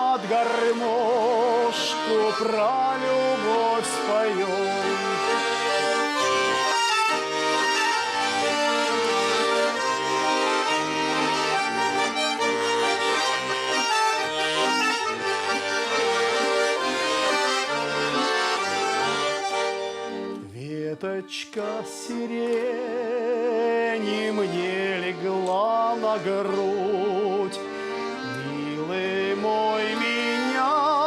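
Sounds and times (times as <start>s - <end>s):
button accordion playing melody: 0.0s - 31.0s.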